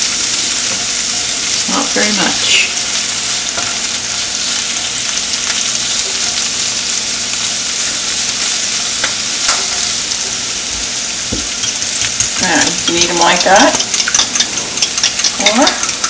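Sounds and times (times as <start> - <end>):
leaves sizzling in frying pan: 0.0 - 16.0.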